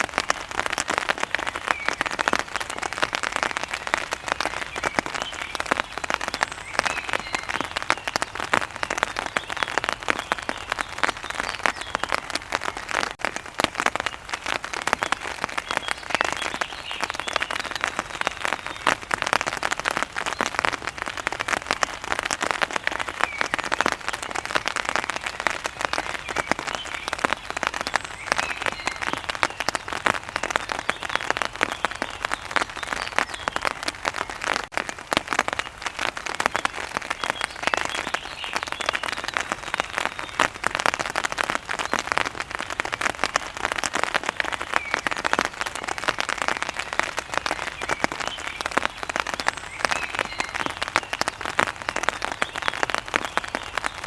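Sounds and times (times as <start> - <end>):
rain on hard surface: 0.0 - 54.0.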